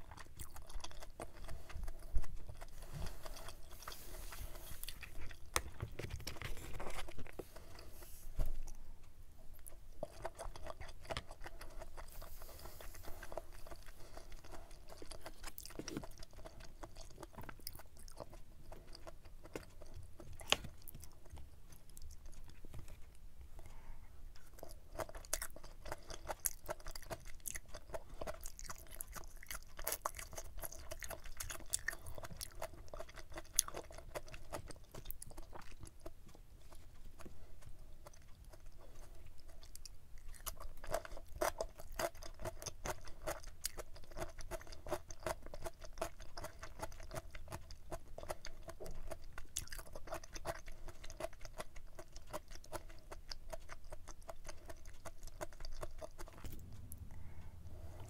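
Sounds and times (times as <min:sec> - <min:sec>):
person chewing with mouth clicks: 0:00.0 - 0:07.9, 0:08.5 - 0:58.0.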